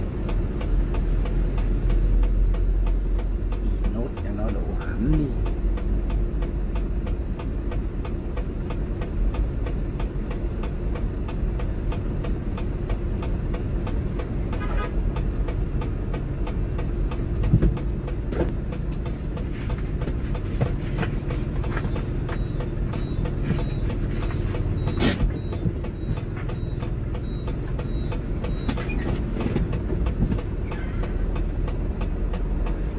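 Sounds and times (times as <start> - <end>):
cab rattling and clicking: 0.0 - 32.9
heavy truck engine rumbling: 0.0 - 32.9.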